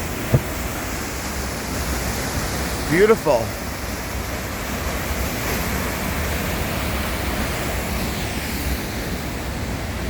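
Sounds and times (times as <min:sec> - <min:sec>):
deep water rumble: 0:00.0 - 0:10.0
waterfall rushing: 0:00.0 - 0:10.0.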